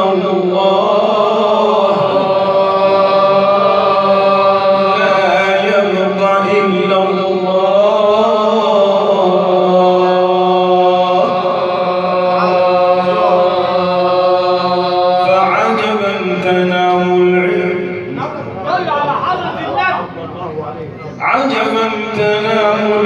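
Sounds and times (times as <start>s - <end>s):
steady low drone: 0.0s - 18.6s
devotional chanting: 0.0s - 20.2s, 21.1s - 23.0s.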